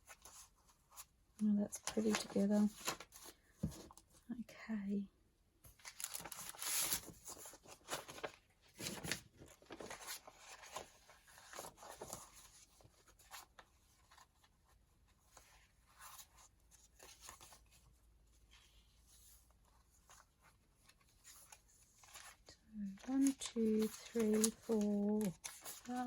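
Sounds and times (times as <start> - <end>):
paper sheets rustling: 1.8 - 4.0, 5.7 - 14.5, 15.1 - 26.0.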